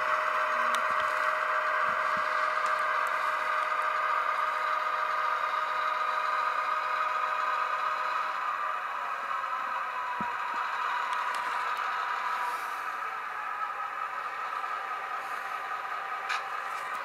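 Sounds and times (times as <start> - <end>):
diesel engine sound from small speaker: 0.0 - 17.0.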